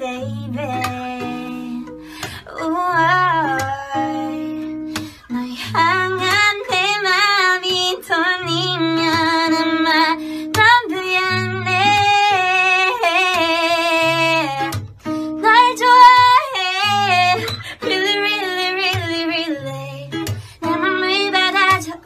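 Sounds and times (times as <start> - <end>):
acoustic guitar: 0.0 - 22.0
woman singing with vibrato: 0.0 - 22.0.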